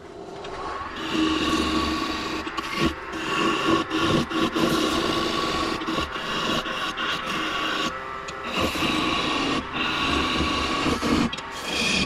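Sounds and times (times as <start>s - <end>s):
chisel shaving wood on a lathe: 1.0s - 12.0s.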